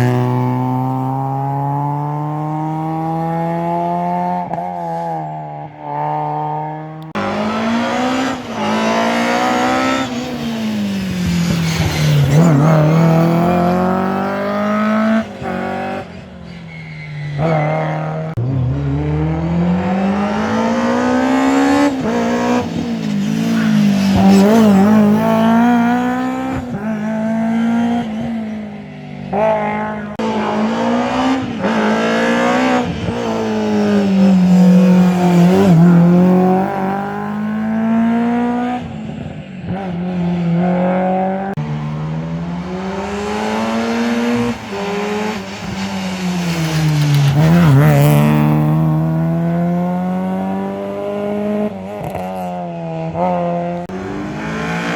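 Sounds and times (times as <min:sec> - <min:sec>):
rally car engine revving: 0:00.0 - 0:16.3, 0:17.4 - 0:28.6, 0:29.3 - 0:54.9.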